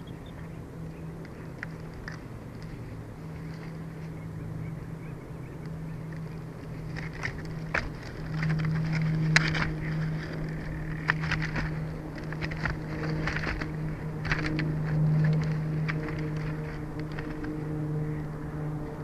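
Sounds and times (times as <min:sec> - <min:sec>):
noisy background: 0:00.0 - 0:19.0
steady low hum: 0:00.0 - 0:19.0.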